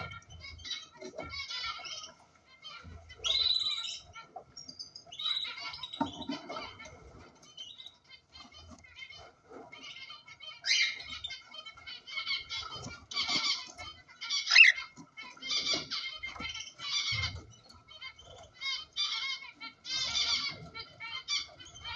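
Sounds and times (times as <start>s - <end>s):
cockatiels chirping: 0.0s - 21.9s
rustling of feathers and shavings: 0.0s - 21.9s.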